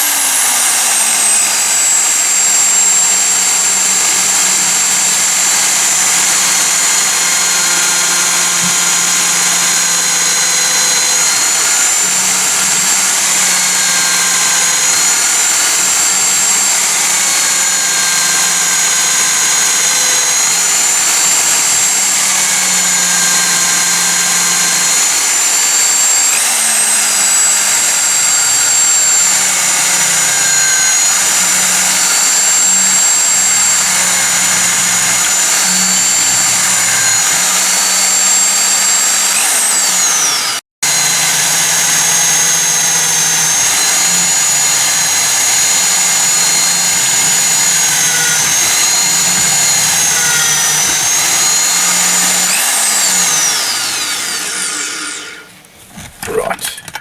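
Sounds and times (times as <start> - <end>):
electric drill whining: 0.0 - 55.7.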